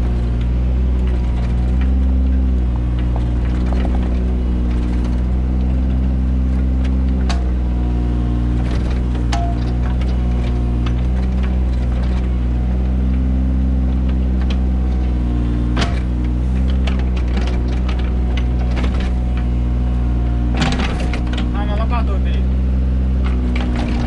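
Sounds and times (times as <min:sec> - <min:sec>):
digging gear knocks and clanks: 0:00.0 - 0:07.6, 0:08.6 - 0:13.2, 0:13.9 - 0:19.6, 0:20.5 - 0:22.3, 0:23.2 - 0:24.0
excavator engine running: 0:00.0 - 0:24.0.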